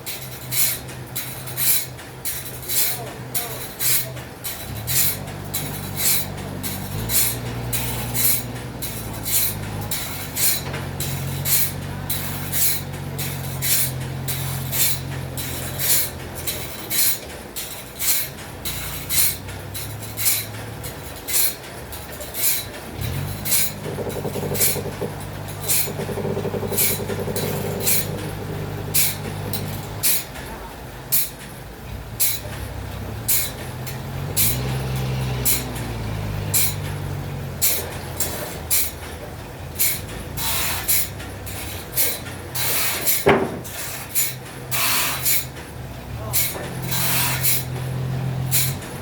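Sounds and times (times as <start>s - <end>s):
machinery engine drone: 3.8s - 49.0s.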